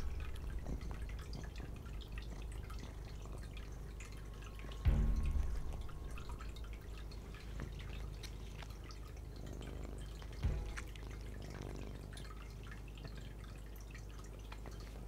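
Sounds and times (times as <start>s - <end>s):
cat licking wet laps: 0.0s - 15.0s.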